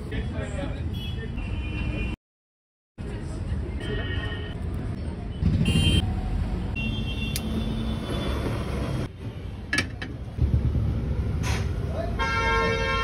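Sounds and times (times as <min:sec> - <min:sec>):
street traffic rumble: 0:00.0 - 0:02.2, 0:03.0 - 0:13.0.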